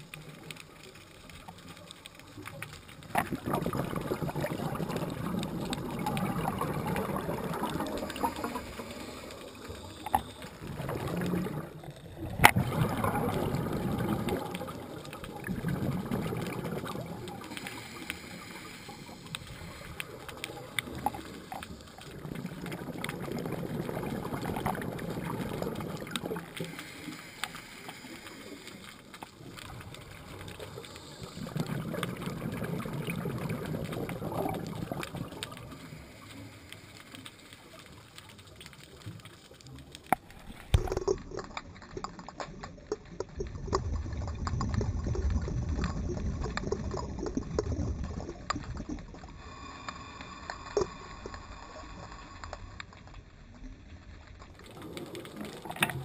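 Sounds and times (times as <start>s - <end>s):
underwater bubbles rumbling: 0.0s - 28.0s, 28.6s - 36.2s, 37.8s - 56.0s.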